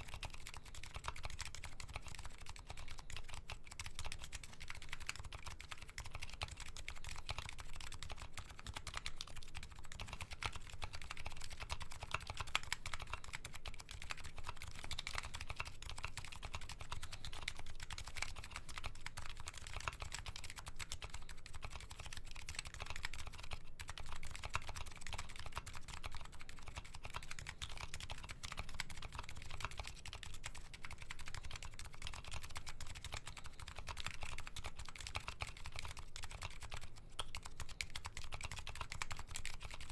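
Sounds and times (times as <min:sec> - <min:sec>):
fast keyboard typing clicks: 0:00.0 - 0:39.9.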